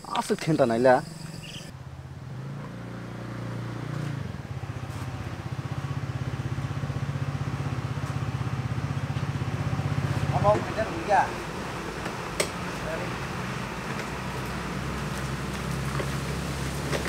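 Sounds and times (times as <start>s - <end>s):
motor scooter engine: 0.6s - 17.0s.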